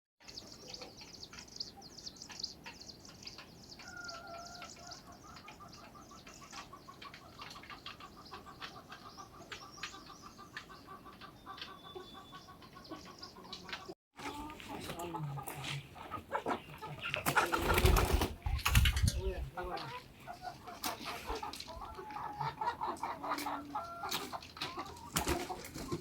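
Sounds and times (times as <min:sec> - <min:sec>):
small birds chirping: 0:00.2 - 0:26.0.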